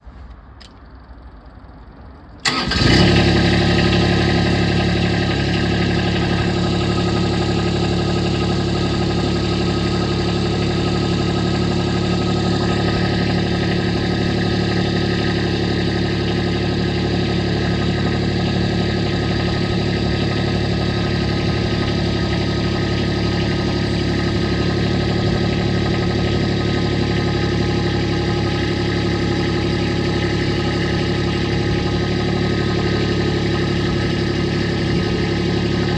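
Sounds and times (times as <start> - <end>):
lawn tractor engine running: 2.4 - 35.9.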